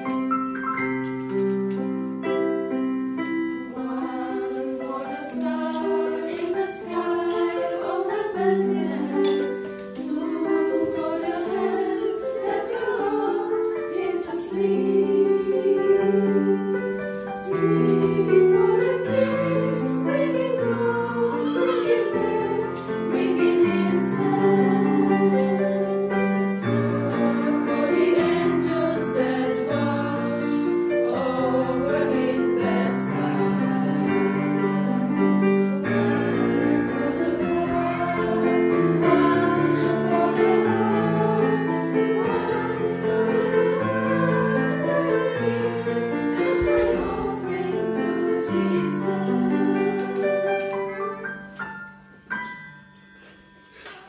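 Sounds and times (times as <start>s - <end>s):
girls' choir singing: 2.6s - 51.6s.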